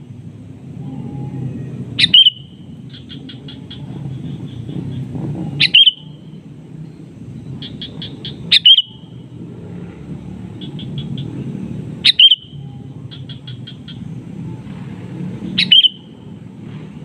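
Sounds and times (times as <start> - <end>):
low steady rumble: 0.0 - 15.2
bird calling with chattering notes: 0.7 - 9.5, 10.4 - 14.4, 15.4 - 16.5.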